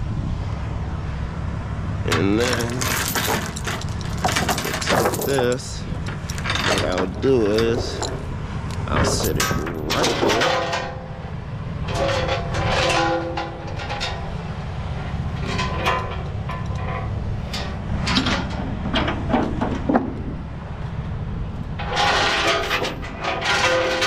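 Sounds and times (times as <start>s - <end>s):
steady low rumble: 0.0s - 24.0s
chain clinking and clanking: 2.1s - 20.4s, 21.7s - 24.0s.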